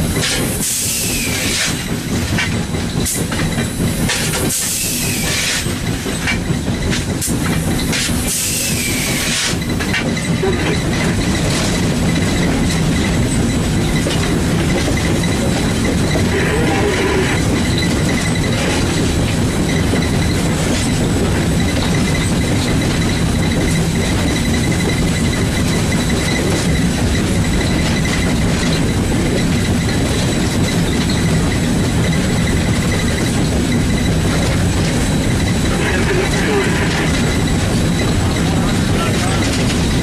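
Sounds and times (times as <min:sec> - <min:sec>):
steam locomotive running din: 0:00.0 - 0:40.0.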